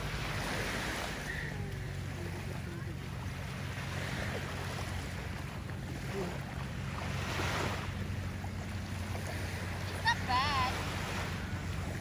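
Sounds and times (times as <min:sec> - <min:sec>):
small waves lapping on shore: 0:00.0 - 0:12.0
steady low rumble: 0:00.0 - 0:12.0.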